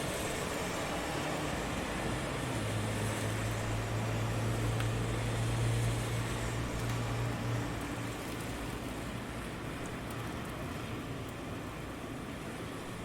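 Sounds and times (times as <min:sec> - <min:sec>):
rain hiss: 0:00.0 - 0:13.0.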